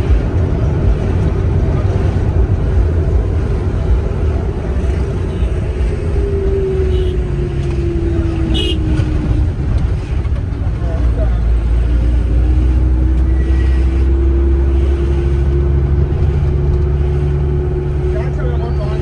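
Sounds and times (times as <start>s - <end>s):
passing vehicle engine: 0.0s - 19.0s
road traffic rumble: 0.0s - 19.0s.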